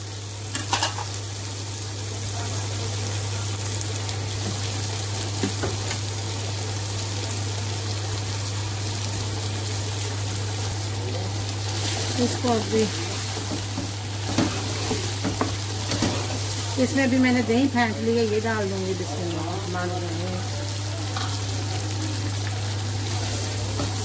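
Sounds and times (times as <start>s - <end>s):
chicken frying in a pot: 0.0s - 24.0s.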